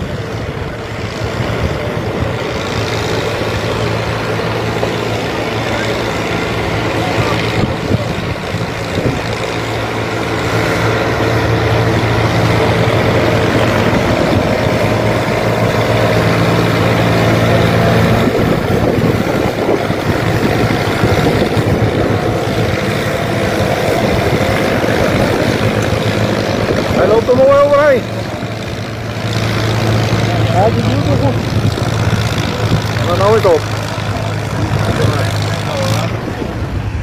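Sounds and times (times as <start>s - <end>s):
tractor engine running under load: 0.0s - 37.0s.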